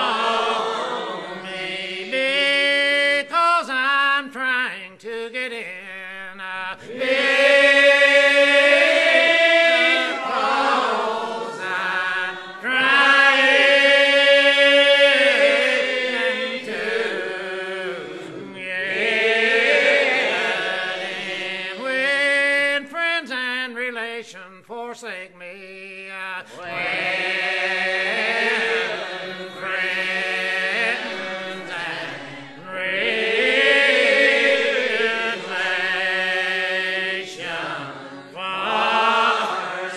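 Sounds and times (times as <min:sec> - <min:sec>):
unaccompanied voices singing a hymn: 0:00.0 - 0:39.9.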